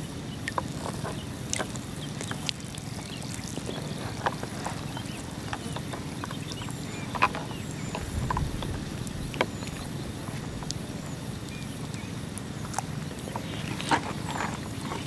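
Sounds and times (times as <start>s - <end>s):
water lapping and sloshing: 0.0s - 15.0s
steady low rumble: 1.3s - 13.7s.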